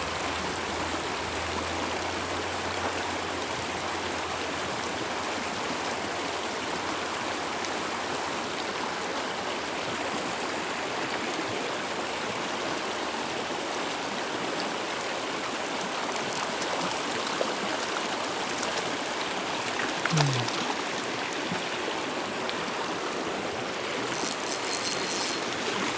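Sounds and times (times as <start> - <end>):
mountain stream flowing: 0.0 - 25.9.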